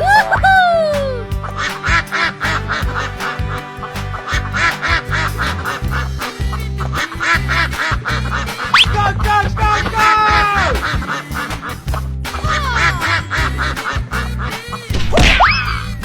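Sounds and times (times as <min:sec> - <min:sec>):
upbeat music with bass beat: 0:00.0 - 0:16.0.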